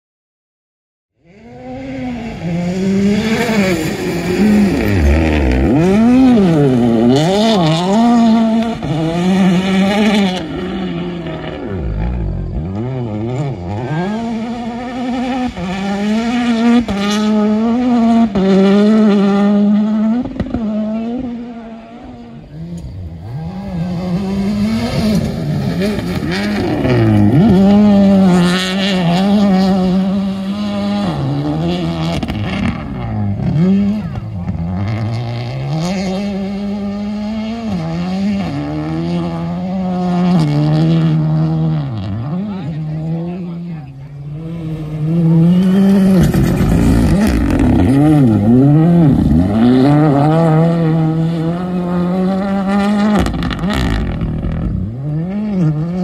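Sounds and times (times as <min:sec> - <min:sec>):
rally car engine revving: 0:01.2 - 0:56.0.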